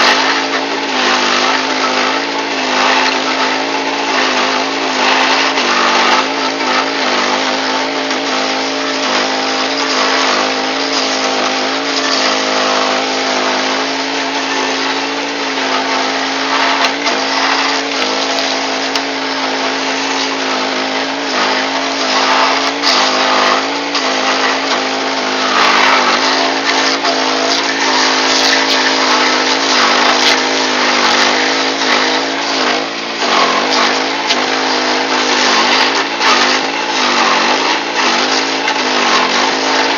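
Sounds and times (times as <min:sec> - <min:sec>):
cutting wheel grinding stump: 0:00.0 - 0:39.9
engine running under load: 0:00.0 - 0:39.9.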